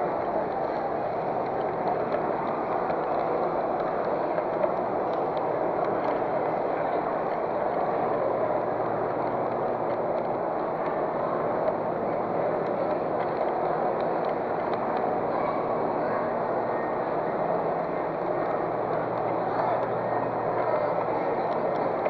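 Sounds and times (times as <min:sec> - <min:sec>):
model train wheels rumbling: 0:00.0 - 0:22.0.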